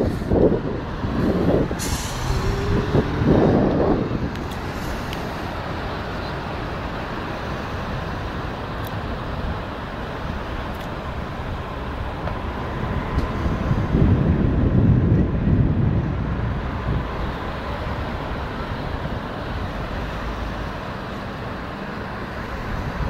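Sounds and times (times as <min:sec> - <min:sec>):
wind buffeting microphone: 0:00.0 - 0:07.0, 0:08.0 - 0:20.0
road traffic: 0:00.0 - 0:23.0.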